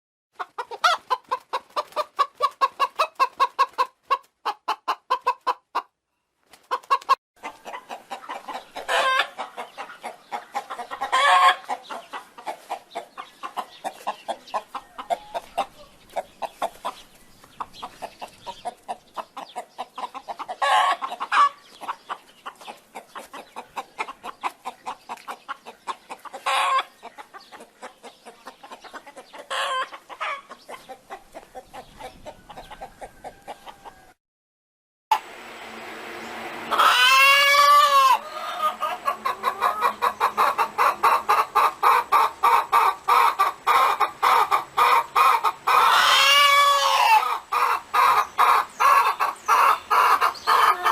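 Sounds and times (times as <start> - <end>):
hens clucking: 0.4 - 34.1, 36.7 - 50.9.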